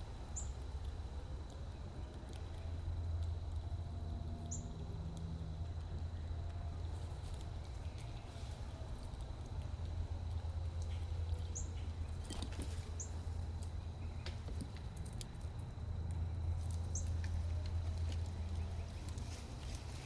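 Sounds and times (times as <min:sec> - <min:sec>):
steady low hum: 0:00.0 - 0:20.0
squirrels feeding taps and clicks: 0:00.2 - 0:20.0.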